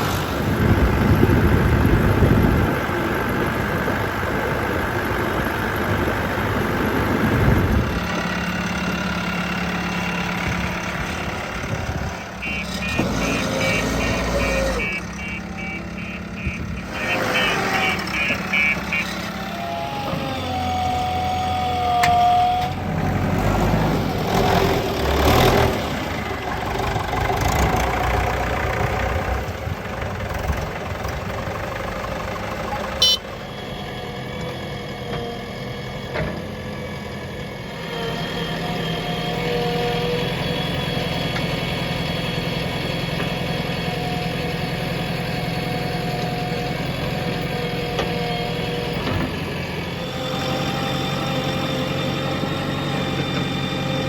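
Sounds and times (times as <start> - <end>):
diesel engine revving and idling: 0.0 - 54.0.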